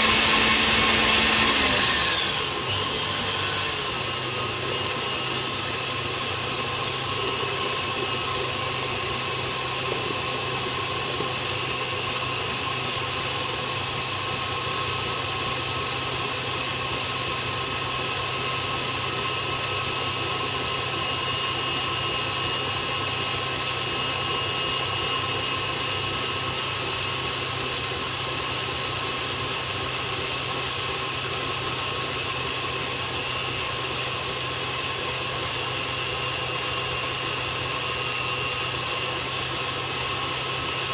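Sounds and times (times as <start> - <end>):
stand mixer whining: 0.0 - 40.9.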